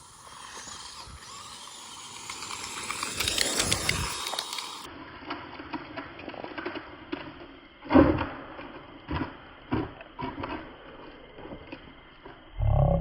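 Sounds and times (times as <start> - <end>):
toy cars clattering on dirt: 0.0 - 12.4.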